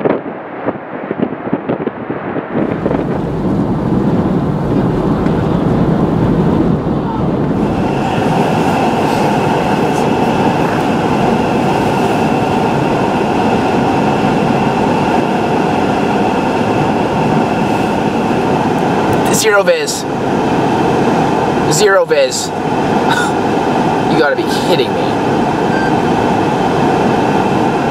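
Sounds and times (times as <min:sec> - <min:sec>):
storm wind roaring: 0:00.0 - 0:27.9.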